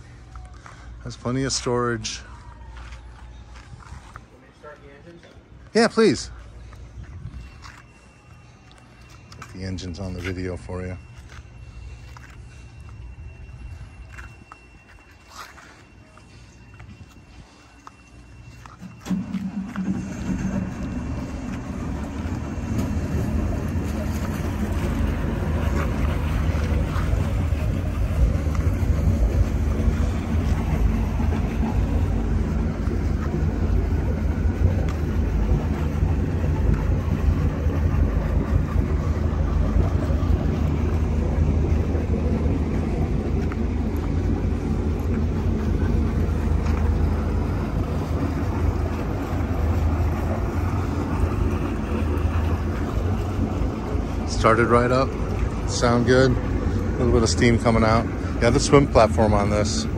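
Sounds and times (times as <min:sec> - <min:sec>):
boat diesel engines idling: 0:00.0 - 0:59.9.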